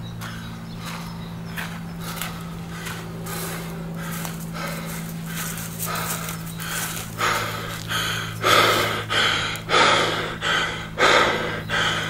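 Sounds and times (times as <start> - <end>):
steady low hum: 0.0 - 12.0
man breathing hard: 0.2 - 12.0.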